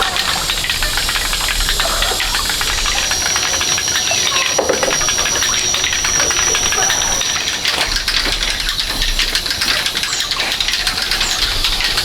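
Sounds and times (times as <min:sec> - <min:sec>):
hissing with fine crackling: 0:00.0 - 0:12.0.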